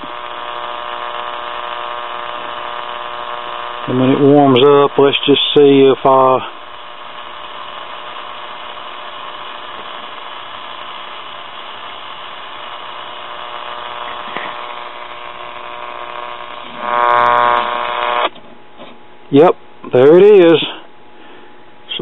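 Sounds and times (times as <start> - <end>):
radio static hiss: 0.0 - 18.3
faint steady hum tones: 0.0 - 22.0.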